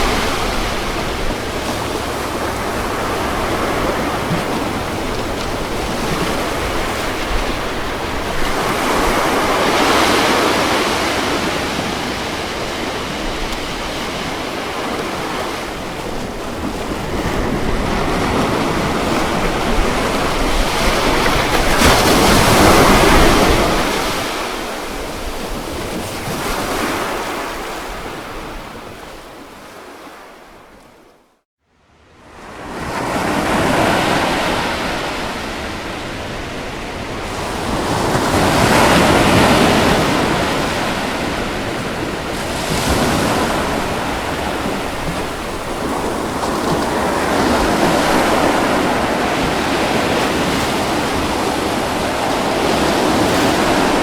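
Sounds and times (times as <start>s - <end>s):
ocean waves washing onto beach: 0.0s - 30.4s, 32.2s - 54.0s.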